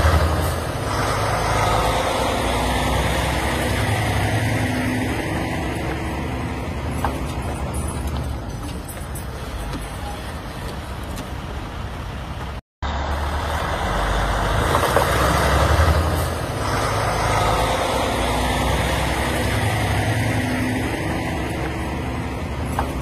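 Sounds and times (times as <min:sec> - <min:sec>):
truck diesel engine rumble: 0:00.0 - 0:23.0
tyre and road noise: 0:00.0 - 0:23.0.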